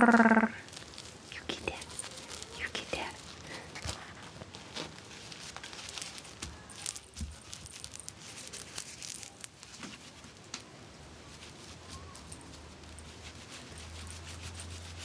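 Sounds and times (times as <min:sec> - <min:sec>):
puppies scuffling with a toy: 0:00.6 - 0:10.4, 0:11.1 - 0:15.0.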